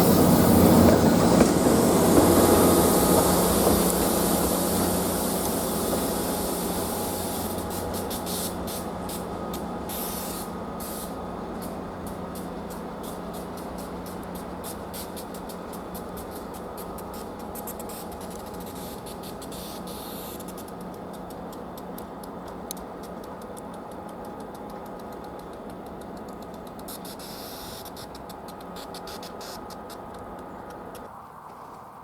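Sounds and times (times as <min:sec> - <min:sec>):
wheels clicking over rails: 0:00.0 - 0:31.9
train rumbling past: 0:00.0 - 0:32.0.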